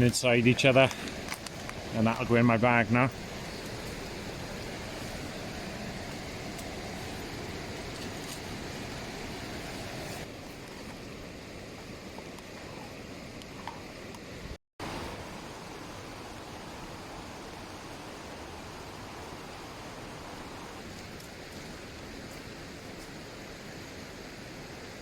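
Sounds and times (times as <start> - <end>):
flowing river water: 0.0 - 25.0.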